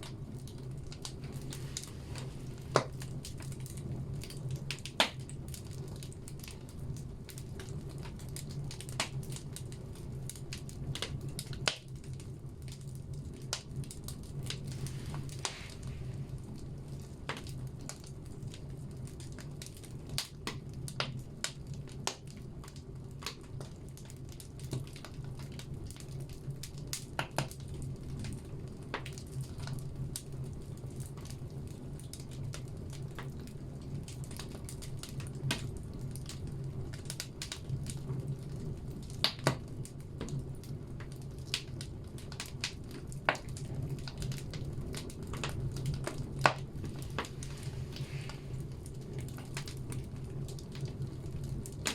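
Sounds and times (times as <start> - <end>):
firewood crackling and popping: 0.0 - 51.9.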